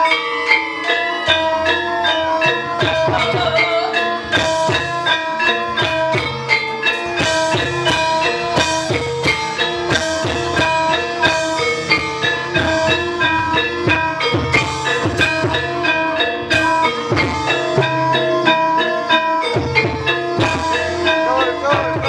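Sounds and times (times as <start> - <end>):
drum keeping time: 0.0 - 22.0
struck metal notes ringing: 0.0 - 22.0.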